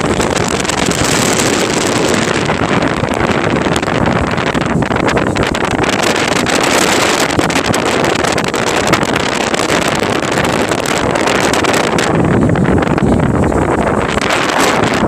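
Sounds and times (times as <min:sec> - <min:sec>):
wind and water rushing: 0:00.0 - 0:15.0
wind buffeting microphone: 0:00.0 - 0:15.0.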